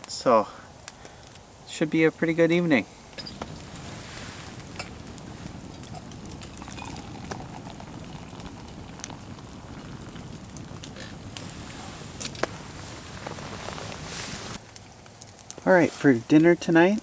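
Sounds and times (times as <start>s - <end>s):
campfire crackling and popping: 0.0s - 17.0s
light rain patter: 0.0s - 17.0s.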